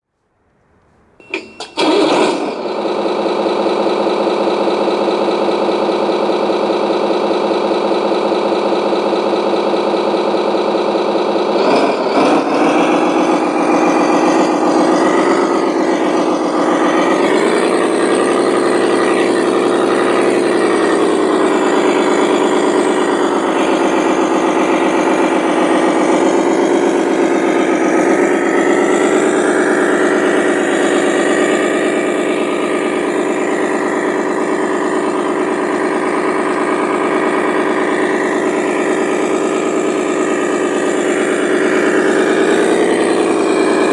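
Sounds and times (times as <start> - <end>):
model truck engine idling: 0.3 - 43.9.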